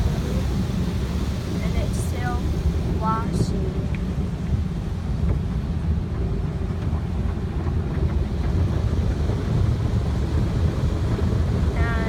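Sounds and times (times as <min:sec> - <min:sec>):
car wash rumble: 0:00.0 - 0:12.0.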